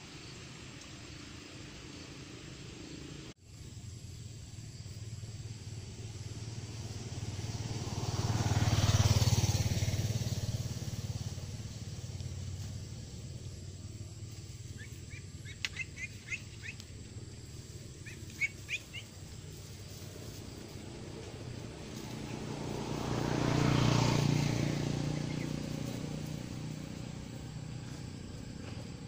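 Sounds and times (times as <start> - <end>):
motor vehicle passing: 0.6 - 29.0.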